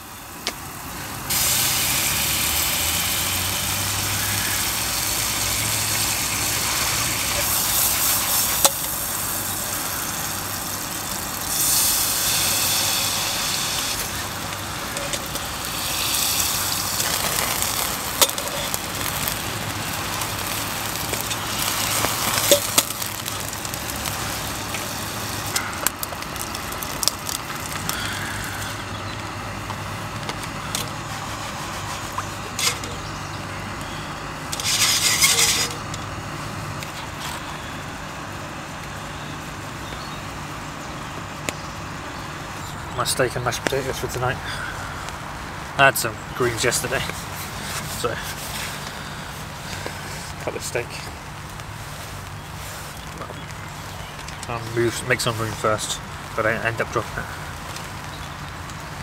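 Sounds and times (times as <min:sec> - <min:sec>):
frying pan hissing: 0:00.0 - 0:42.6, 0:43.9 - 0:59.0.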